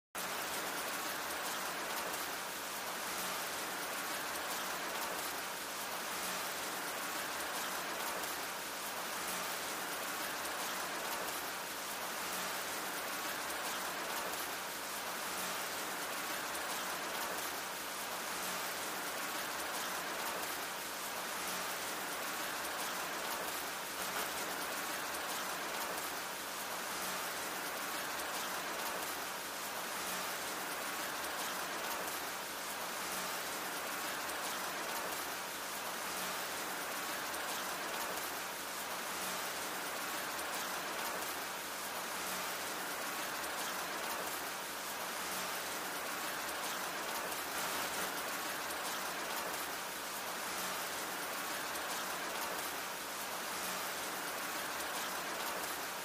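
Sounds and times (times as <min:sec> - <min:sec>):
steady rain falling: 0:00.2 - 0:56.0.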